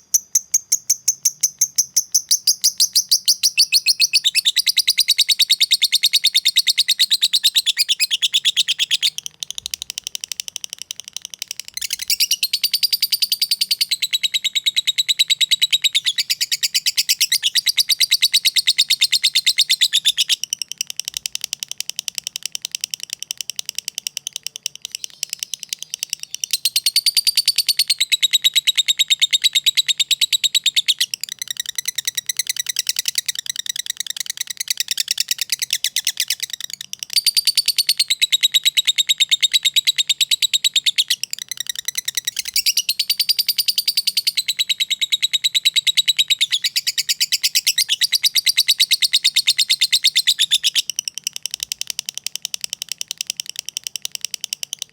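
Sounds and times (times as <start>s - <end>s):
lovebird chattering: 0.0s - 53.8s.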